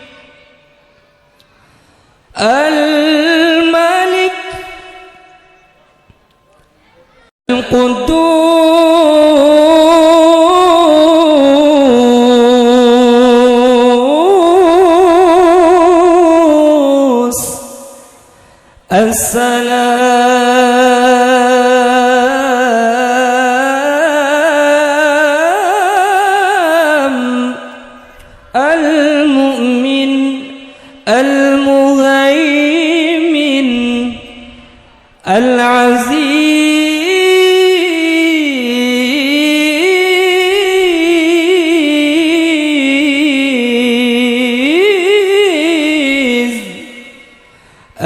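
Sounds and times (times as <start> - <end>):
man reciting melodically: 0.0 - 1.2, 2.3 - 6.5, 7.1 - 48.0.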